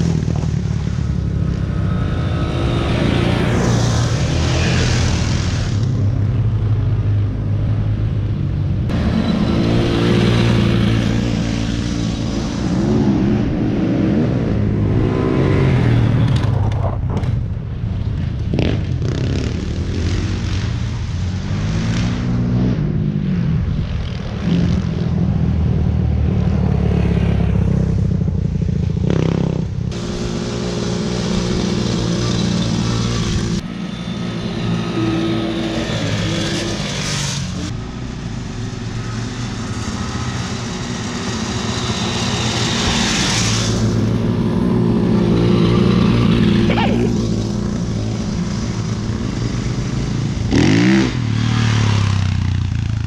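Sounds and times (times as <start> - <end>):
quad bike engines revving: 0.0 - 17.5, 18.1 - 53.0.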